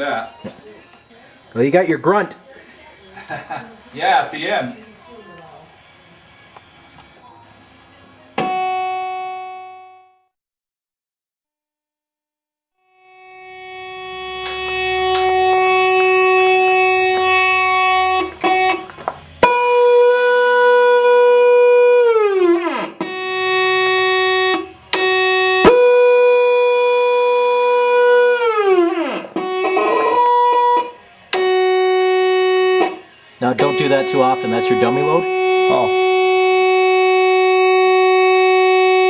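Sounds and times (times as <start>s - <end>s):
electronic fog horn buzzy tone: 3.9s - 10.3s, 12.8s - 39.0s.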